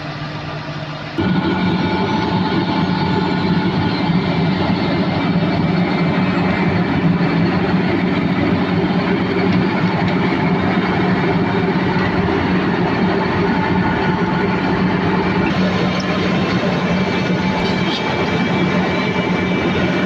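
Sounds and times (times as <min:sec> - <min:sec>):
diesel paving machinery running: 0:00.0 - 0:20.0.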